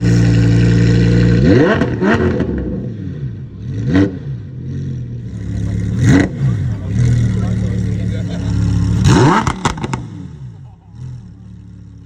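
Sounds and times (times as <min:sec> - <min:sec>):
sports car engine revving: 0:00.0 - 0:12.0.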